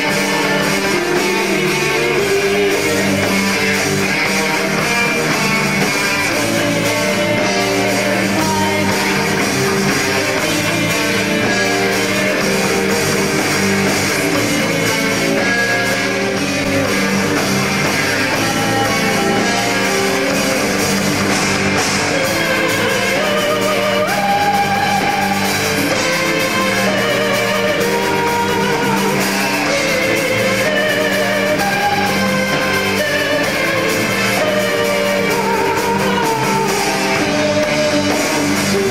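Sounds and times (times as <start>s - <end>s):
live rock band playing: 0.0s - 38.9s
person singing: 0.0s - 38.9s.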